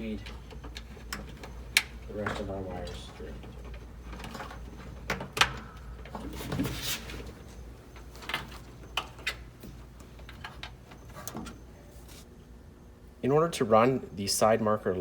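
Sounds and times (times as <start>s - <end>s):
wiring harness clicks and rustles: 0.0s - 12.2s.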